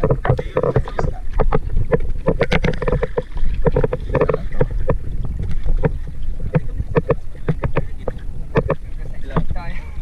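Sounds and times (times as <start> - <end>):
waves knocking against boat hull: 0.0 - 10.0
wind rumble on microphone: 0.0 - 10.0.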